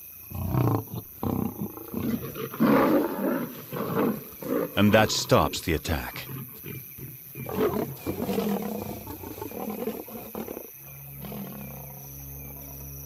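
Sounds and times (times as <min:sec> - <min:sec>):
lions growling in a fight: 0:00.3 - 0:12.7.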